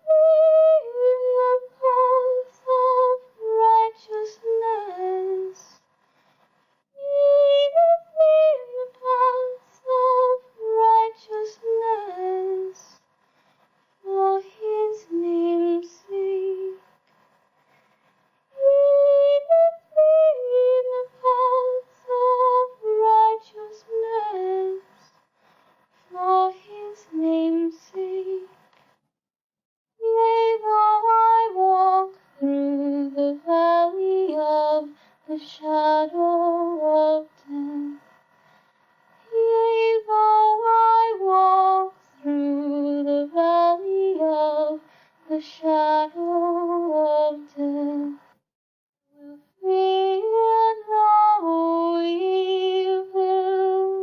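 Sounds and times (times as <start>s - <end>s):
person singing unaccompanied: 0.0s - 5.8s, 7.0s - 13.0s, 14.0s - 16.8s, 18.5s - 25.1s, 26.1s - 28.6s, 30.0s - 38.0s, 39.2s - 48.2s, 49.2s - 54.0s.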